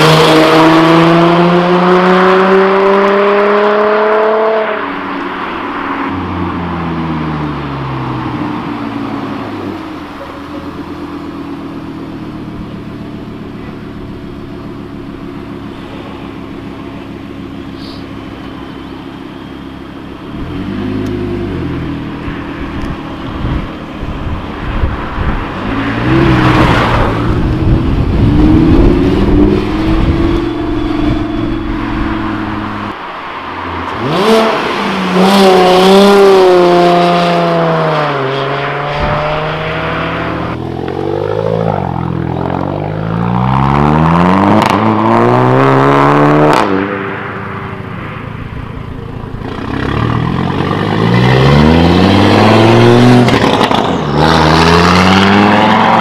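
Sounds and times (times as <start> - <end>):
car engine revving: 0.0 - 56.0
sports car engine accelerating: 0.0 - 56.0.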